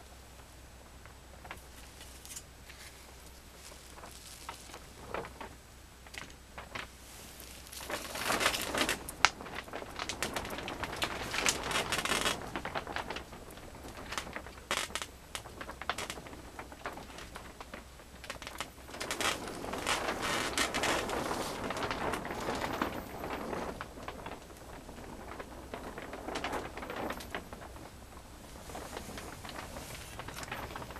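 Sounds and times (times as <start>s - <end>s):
fire crackling and rustling: 0.3s - 30.9s.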